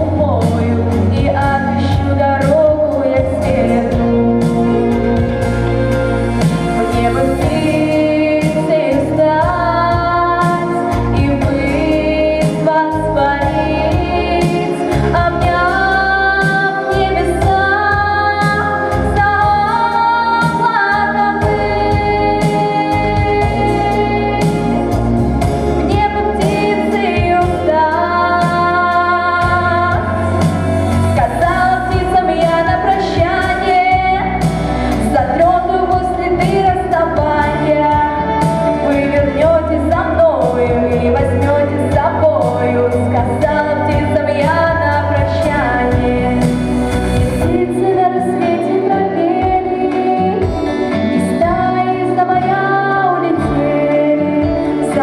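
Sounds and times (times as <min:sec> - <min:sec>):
woman singing: 0:00.0 - 0:05.2, 0:06.4 - 0:55.0
instrumental accompaniment: 0:00.0 - 0:55.0.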